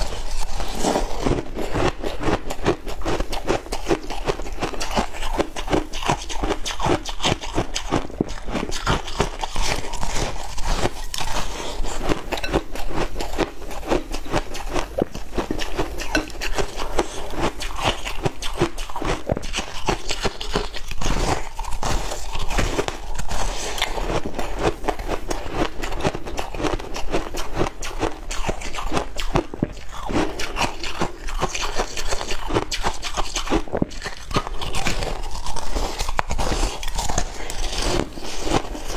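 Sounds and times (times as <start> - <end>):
ice being chewed and crunched: 0.0 - 38.9.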